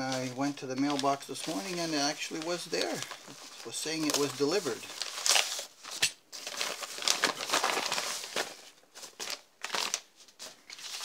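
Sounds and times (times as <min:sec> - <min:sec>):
bubble mailers crinkling: 0:00.0 - 0:11.0.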